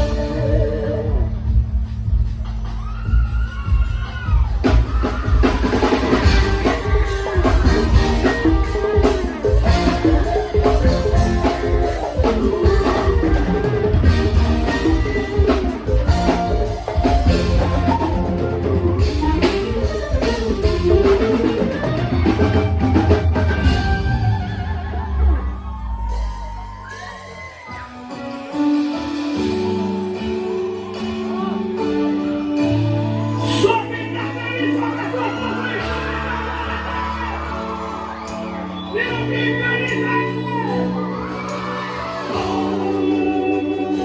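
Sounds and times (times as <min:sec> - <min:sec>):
electric guitar lead line: 0:00.0 - 0:02.4, 0:04.6 - 0:44.0
bass guitar: 0:00.0 - 0:44.0
drum kit: 0:00.0 - 0:44.0.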